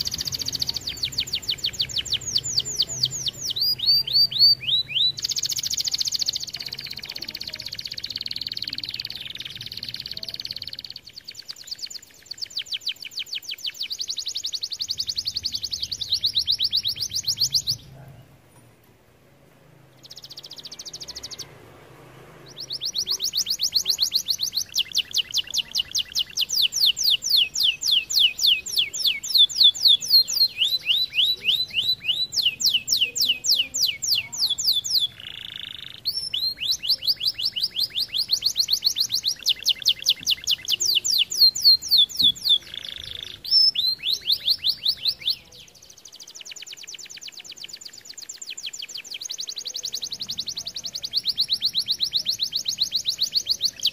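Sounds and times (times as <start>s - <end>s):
canary singing trills: 0.0s - 18.4s, 19.8s - 53.9s.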